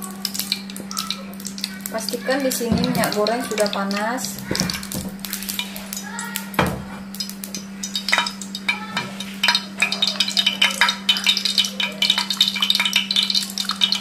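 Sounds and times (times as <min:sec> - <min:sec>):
oil crackling in frying pan: 0:00.0 - 0:14.0.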